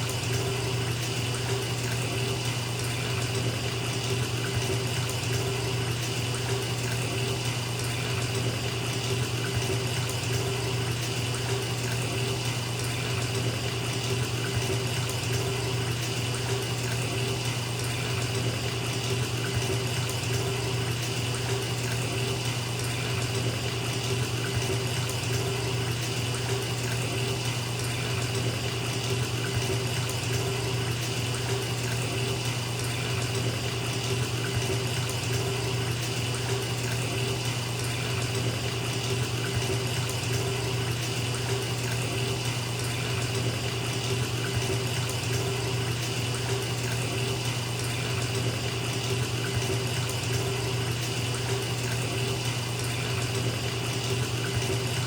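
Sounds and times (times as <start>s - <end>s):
tap water pouring into tub: 0.0s - 55.0s.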